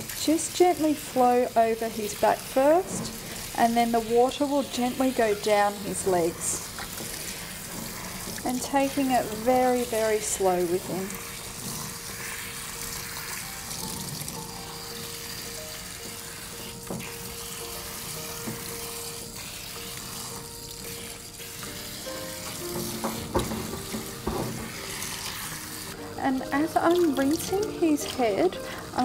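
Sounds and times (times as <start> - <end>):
shower spray hissing: 0.0 - 29.0
soft background music: 0.0 - 29.0.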